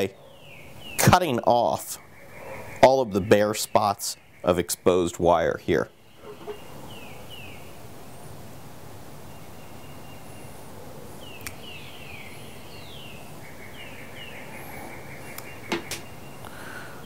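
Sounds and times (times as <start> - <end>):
songbirds whistling: 0.0 - 8.4, 9.1 - 17.0
outdoor background noise: 0.0 - 17.0.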